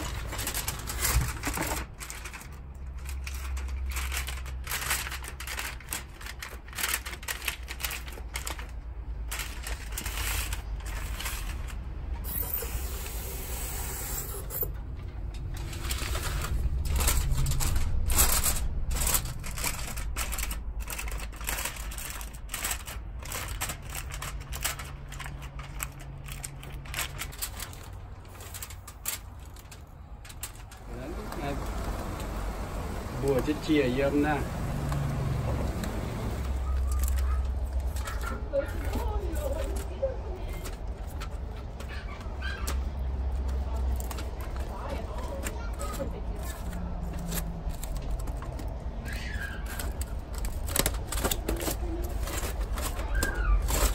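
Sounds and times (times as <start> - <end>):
aluminium foil crinkling: 0.0 - 32.4, 33.2 - 53.9.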